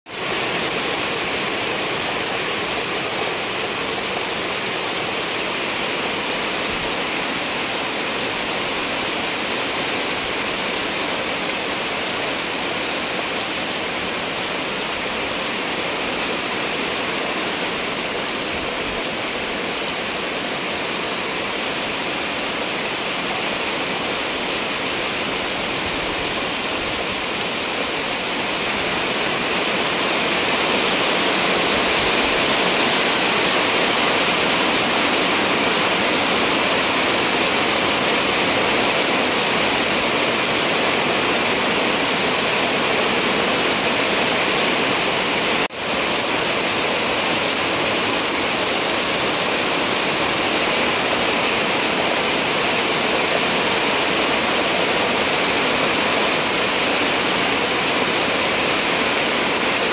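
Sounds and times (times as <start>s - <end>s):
heavy rain on puddles: 0.1s - 59.9s.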